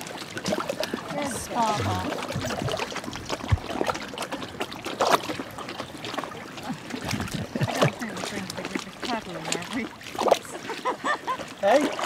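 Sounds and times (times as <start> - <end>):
dogs splashing through water: 0.0 - 12.0
stream trickling: 0.0 - 12.0.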